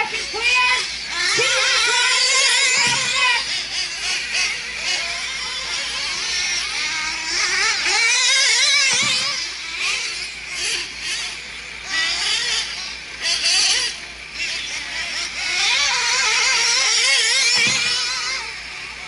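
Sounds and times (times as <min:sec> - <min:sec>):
small engines screaming: 0:00.0 - 0:19.0.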